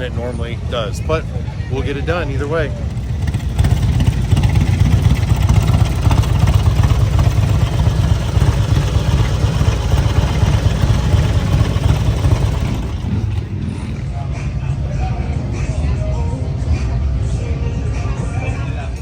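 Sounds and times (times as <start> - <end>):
motorcycle engine idling: 0.0 - 16.3.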